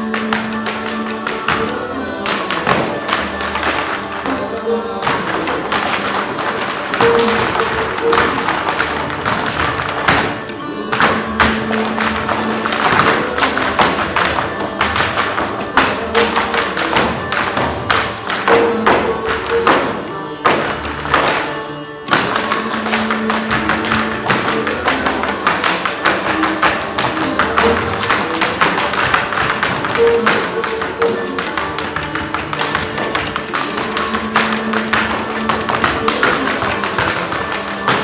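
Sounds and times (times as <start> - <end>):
percussive music with held notes: 0.0 - 38.0.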